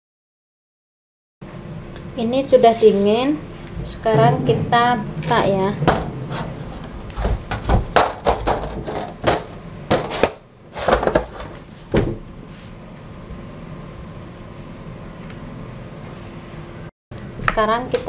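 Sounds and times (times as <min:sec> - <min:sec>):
steady low hum: 0:01.4 - 0:18.0.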